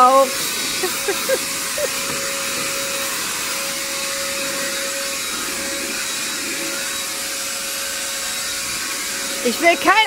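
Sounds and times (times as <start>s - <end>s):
handheld vacuum cleaner whine: 0.0s - 10.0s.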